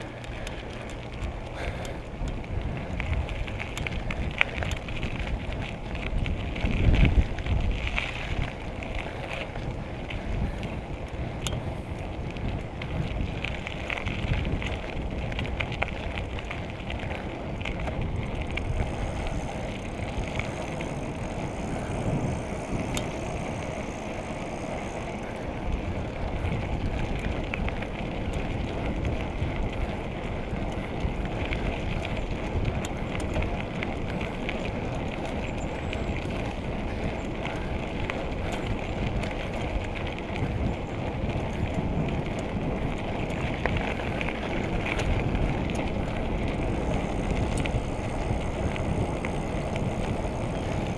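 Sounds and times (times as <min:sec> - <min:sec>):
bicycle tyres rumbling: 0:00.0 - 0:50.9
bike rattles and clicks: 0:00.0 - 0:50.9
wind buffeting microphone: 0:00.0 - 0:50.9.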